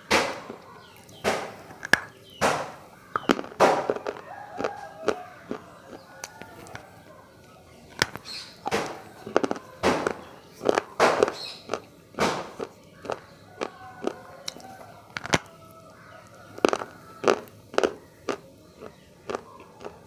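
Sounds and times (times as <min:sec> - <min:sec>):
crunching hard food: 0:00.0 - 0:20.0.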